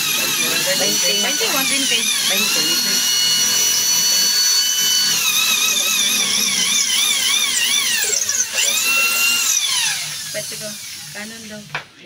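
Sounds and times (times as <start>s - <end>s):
electric drill boring into concrete: 0.0s - 11.7s.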